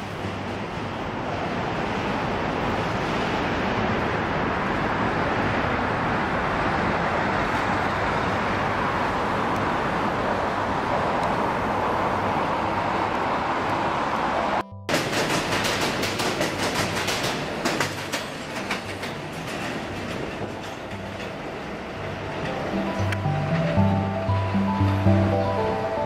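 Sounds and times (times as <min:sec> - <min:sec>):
highway traffic noise: 0:00.0 - 0:26.0.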